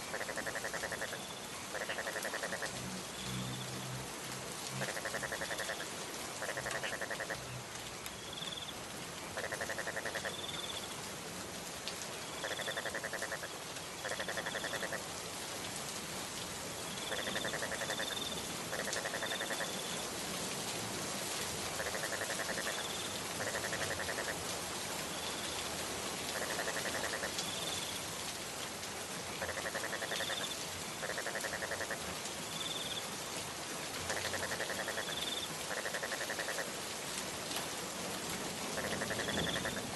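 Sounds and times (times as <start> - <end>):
frogs croaking: 0.0 - 11.0, 12.2 - 15.6, 16.8 - 20.1, 21.7 - 28.0, 29.2 - 33.2, 34.0 - 36.9, 38.7 - 39.9
steady rain: 0.0 - 39.9.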